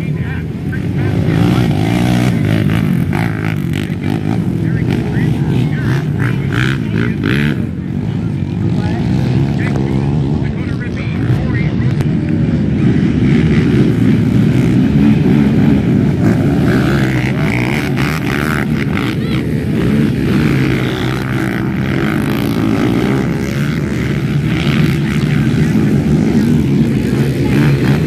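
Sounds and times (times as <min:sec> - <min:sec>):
racing atv engines droning: 0:00.0 - 0:28.0.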